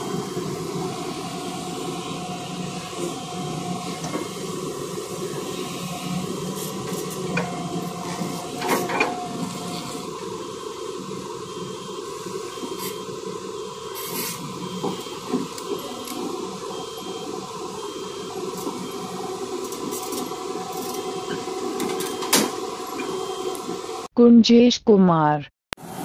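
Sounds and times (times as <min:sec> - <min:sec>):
excavator engine and hydraulic drone: 0:00.0 - 0:24.1, 0:25.8 - 0:26.0.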